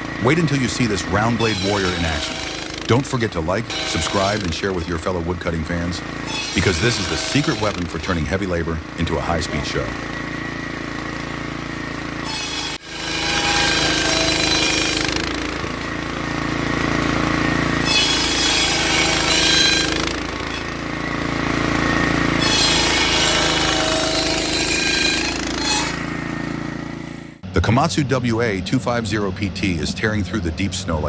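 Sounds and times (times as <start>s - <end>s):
saw blade cutting logs: 0.0s - 27.4s
circular saw running: 0.0s - 27.5s.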